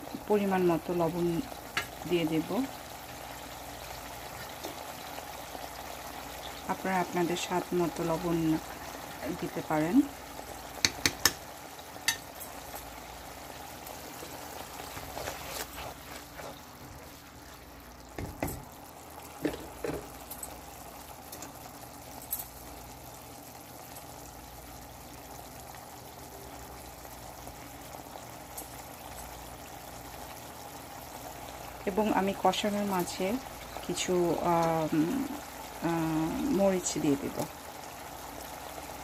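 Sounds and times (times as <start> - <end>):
sauce bubbling and sizzling in wok: 0.0 - 39.0.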